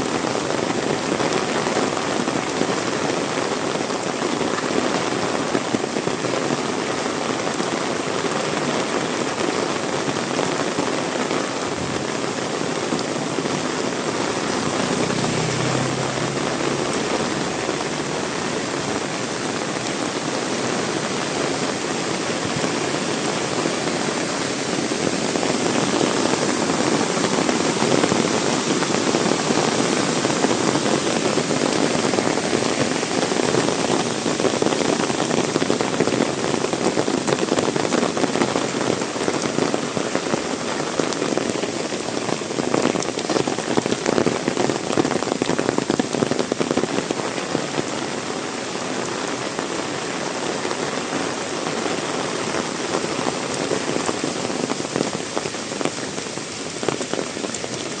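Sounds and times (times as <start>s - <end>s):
heavy rain splashing: 0.0s - 58.0s.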